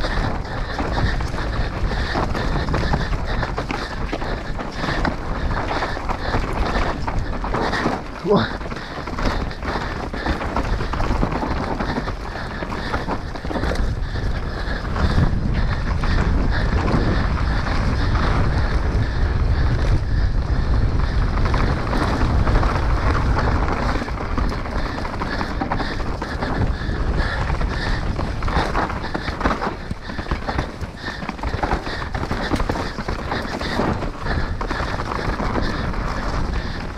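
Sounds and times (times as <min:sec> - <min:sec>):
bike clattering: 0:00.0 - 0:36.9
bike tyres on trail: 0:00.0 - 0:36.9
wind buffeting microphone: 0:00.0 - 0:36.9.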